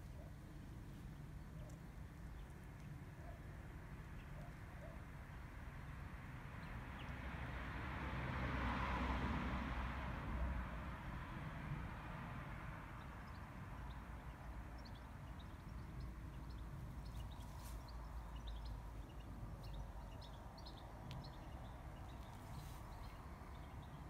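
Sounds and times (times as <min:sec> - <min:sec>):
small birds chirping: 0:00.0 - 0:07.6, 0:10.8 - 0:24.0
low outdoor rumble: 0:00.0 - 0:24.0.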